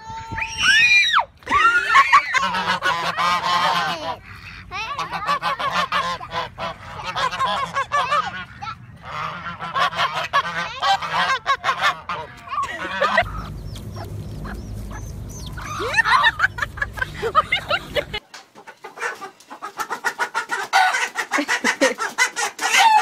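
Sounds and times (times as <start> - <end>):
geese honking: 2.2 - 18.2, 18.9 - 23.0.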